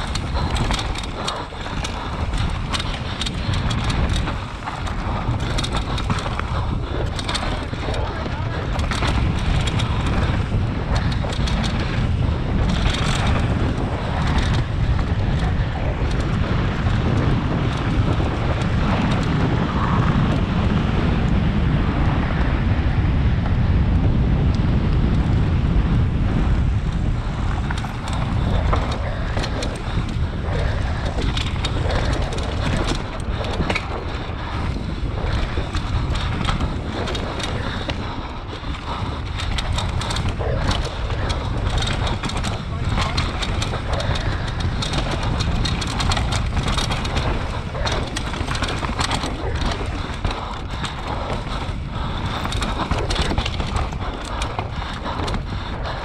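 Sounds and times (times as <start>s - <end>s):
motorcycle engine under load: 0.0s - 20.0s, 26.0s - 55.7s
wind buffeting microphone: 0.0s - 56.0s.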